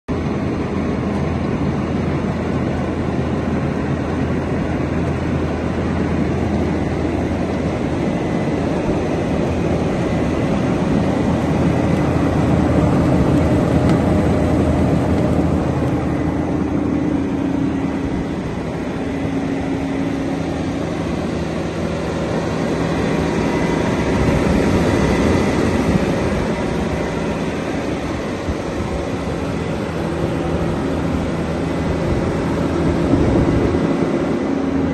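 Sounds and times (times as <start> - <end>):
diesel engine drone: 0.1 - 34.9.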